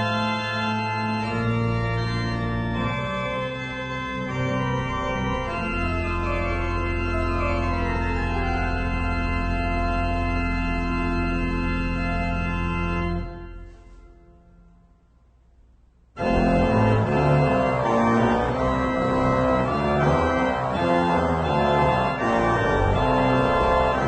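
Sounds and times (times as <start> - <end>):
organ playing sustained chords: 0.0 - 15.1, 16.2 - 24.0.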